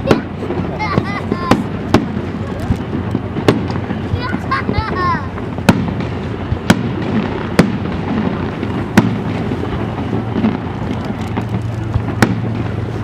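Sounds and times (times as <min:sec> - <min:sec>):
fireworks bangs: 0:00.0 - 0:13.0
light fireworks cracks: 0:00.0 - 0:13.0
rumble of distant bursts: 0:00.0 - 0:13.0.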